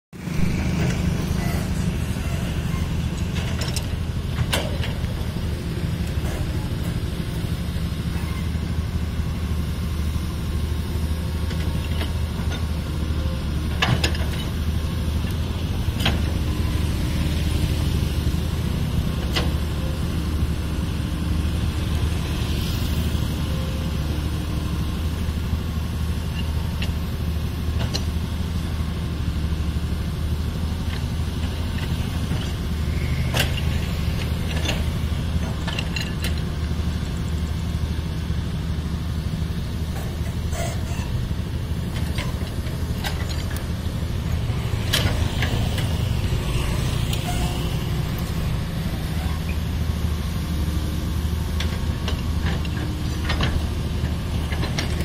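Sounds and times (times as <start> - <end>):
excavator diesel engine running: 0.2 - 55.0.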